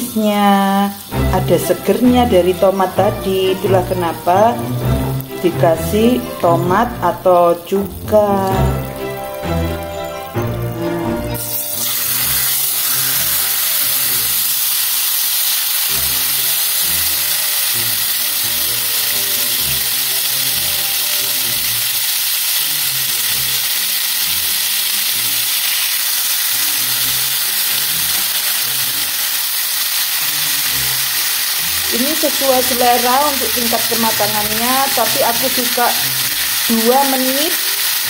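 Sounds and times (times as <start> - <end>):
beef sizzling in a pan: 0.0 - 38.0.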